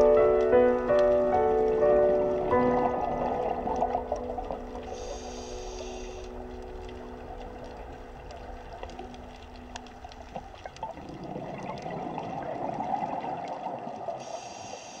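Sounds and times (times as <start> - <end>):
underwater regulator bubbles: 0.0 - 14.6.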